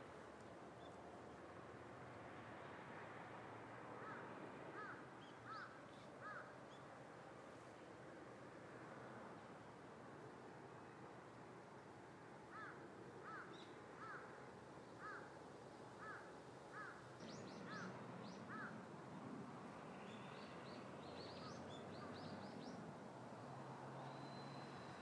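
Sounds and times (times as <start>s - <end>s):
low steady hiss: 0.0s - 25.0s.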